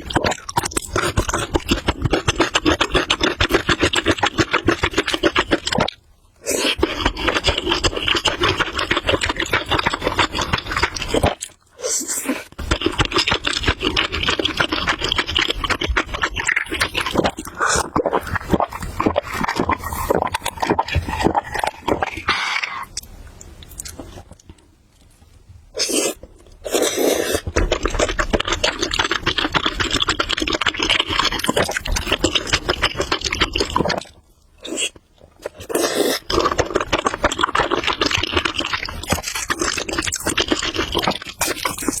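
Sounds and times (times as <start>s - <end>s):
chewing noodles: 0.0s - 25.1s, 25.8s - 42.0s.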